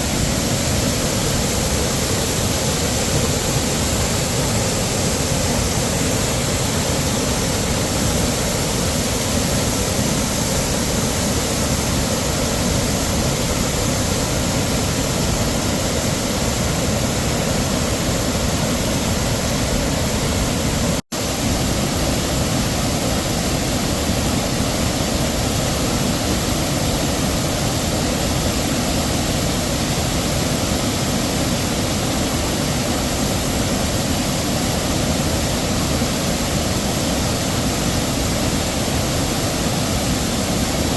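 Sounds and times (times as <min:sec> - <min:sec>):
heavy waterfall rushing: 0:00.0 - 0:40.9.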